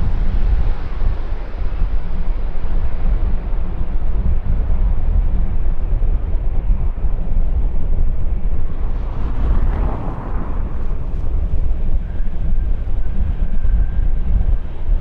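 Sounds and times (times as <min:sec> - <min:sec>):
jet aircraft engine noise: 0:00.0 - 0:15.0
wind buffeting microphone: 0:00.0 - 0:15.0.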